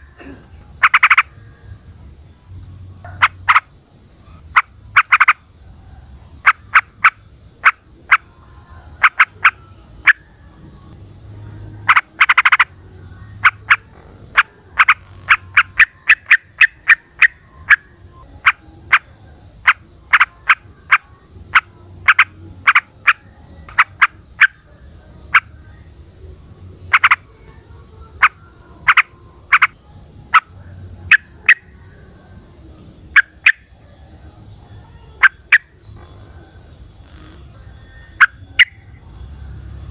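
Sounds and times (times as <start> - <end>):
pulsing chirr of insects: 0.0 - 39.9.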